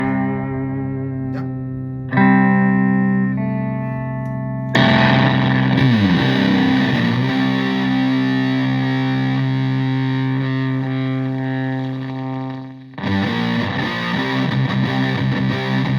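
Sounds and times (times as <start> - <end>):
fuzzy electric guitar chords: 0.0 - 15.9.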